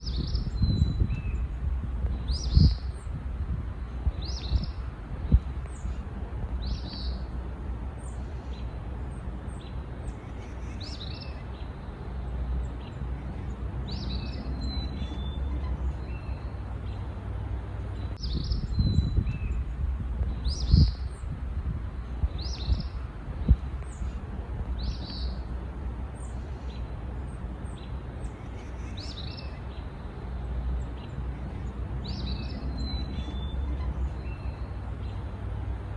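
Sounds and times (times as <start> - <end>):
songbirds calling: 0.0 - 35.9
steady low rumble: 0.0 - 35.9.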